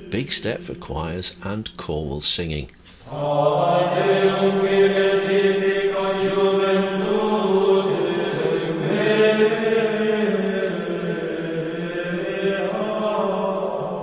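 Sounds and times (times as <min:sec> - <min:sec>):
voices singing unaccompanied chant: 0:00.0 - 0:01.8, 0:03.0 - 0:14.0.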